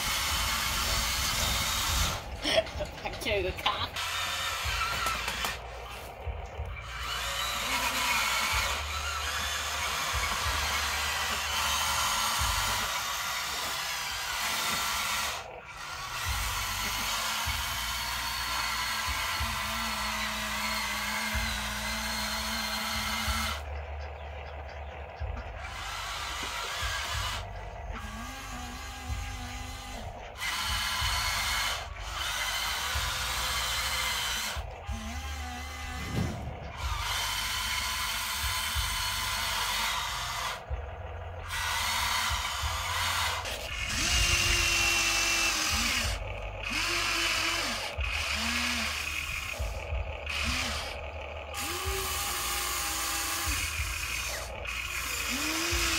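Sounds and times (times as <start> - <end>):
toy electric motors whirring: 0.0 - 55.9.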